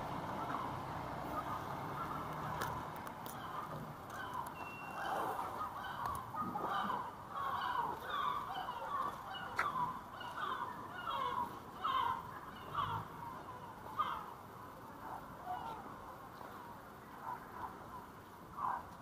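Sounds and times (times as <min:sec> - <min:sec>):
bird calling: 0:00.0 - 0:19.0
faint street noise: 0:00.0 - 0:19.0.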